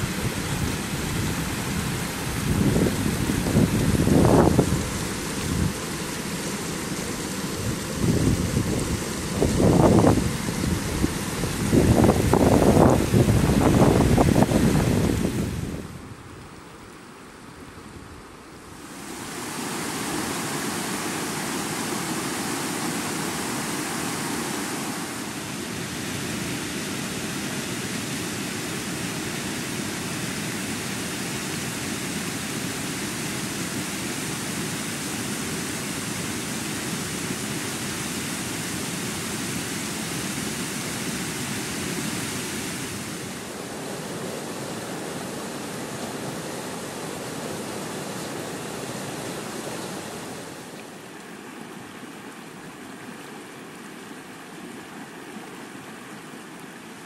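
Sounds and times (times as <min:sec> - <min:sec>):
flood water rushing through stream: 0:00.0 - 0:57.0.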